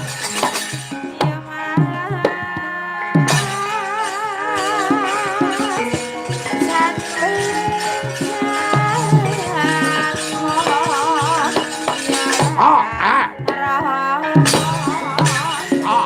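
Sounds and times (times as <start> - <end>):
drum strokes: 0.0 - 16.0
gamelan music: 0.0 - 16.0.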